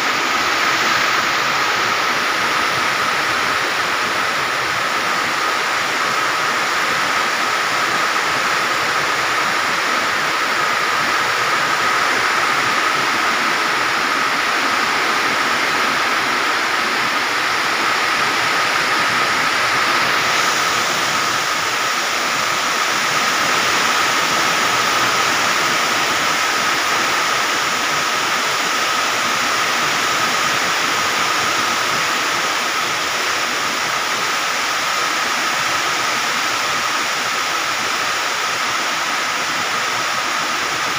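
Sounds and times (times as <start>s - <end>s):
heavy rain: 0.0s - 40.9s
strong wind: 0.0s - 40.9s.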